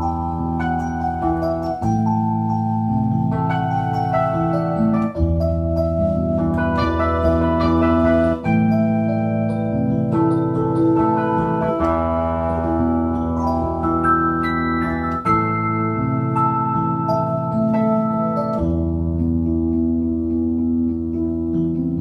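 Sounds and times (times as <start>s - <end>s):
bass line: 0.0s - 22.0s
electronic keyboard organ chords: 0.0s - 22.0s.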